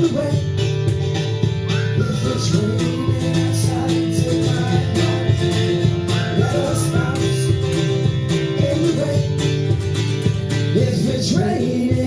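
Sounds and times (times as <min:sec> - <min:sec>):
steady beat: 0:00.0 - 0:12.0
strummed guitar: 0:00.0 - 0:12.0.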